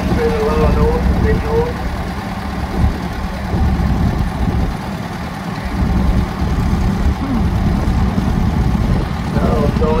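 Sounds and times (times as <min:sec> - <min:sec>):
tractor engine running at low revs: 0:00.0 - 0:10.0.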